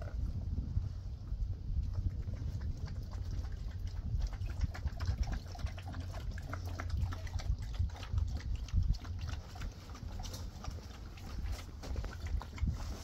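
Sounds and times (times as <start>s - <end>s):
low rumble: 0.0s - 13.0s
dogs chewing and smacking: 1.8s - 13.0s.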